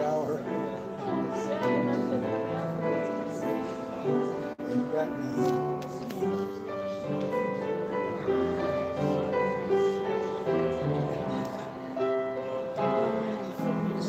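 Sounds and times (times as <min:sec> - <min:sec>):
grand piano held notes: 0:00.0 - 0:14.0.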